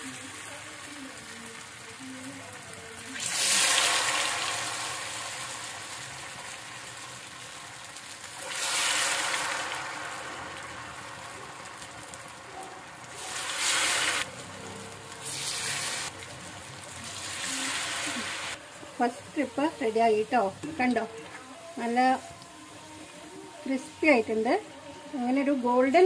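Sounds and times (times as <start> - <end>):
potato wedges deep-frying in oil: 0.0 - 26.0.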